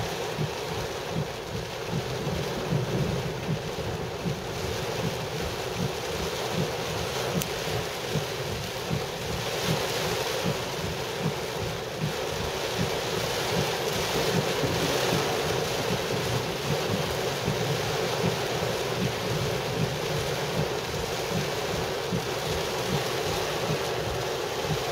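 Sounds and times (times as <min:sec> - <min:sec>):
heavy rain on car roof: 0:00.0 - 0:24.9.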